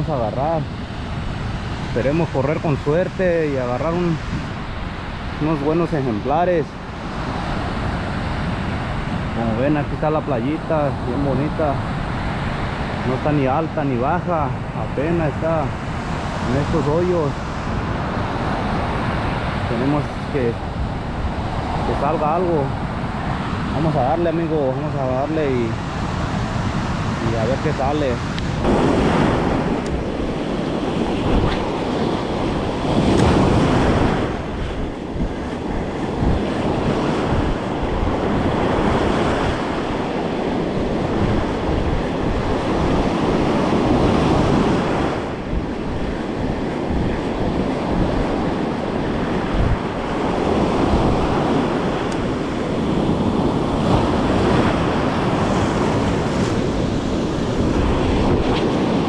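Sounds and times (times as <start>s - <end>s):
ocean surf breaking on beach: 0.0s - 59.0s
wind rumbling on microphone: 0.0s - 59.0s.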